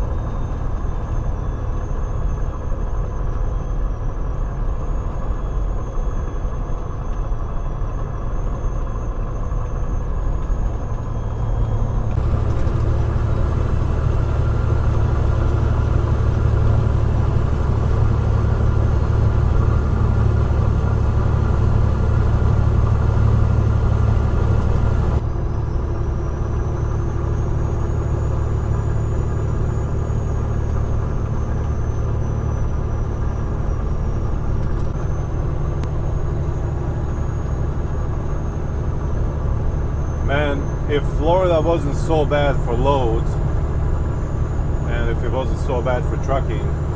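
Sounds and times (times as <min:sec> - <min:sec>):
truck engine and road rumble: 0:00.0 - 0:46.9.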